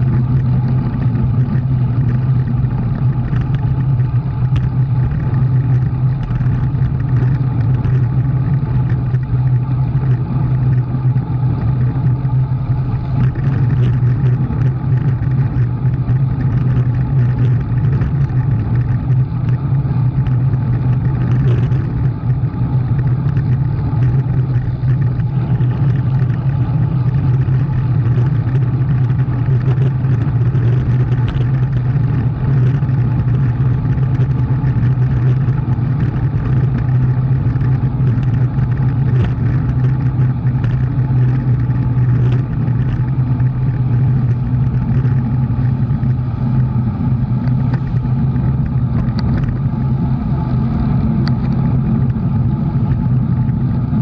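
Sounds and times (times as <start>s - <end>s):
engine droning: 0.0s - 54.0s
road and wind noise: 0.0s - 54.0s.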